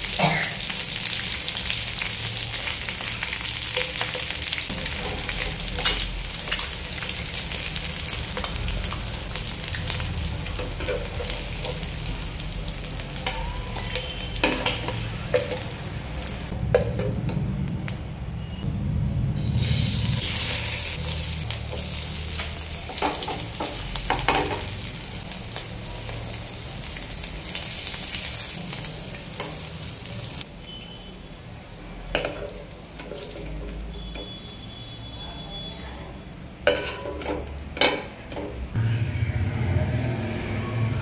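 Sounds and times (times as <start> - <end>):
eggs sizzling in hot oil: 0.0 - 18.6, 19.4 - 38.8.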